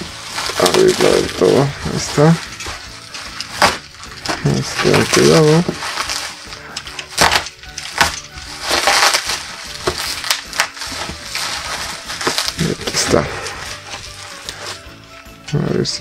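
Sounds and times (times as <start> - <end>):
bubble wrap and plastic crinkling: 0.0 - 15.9.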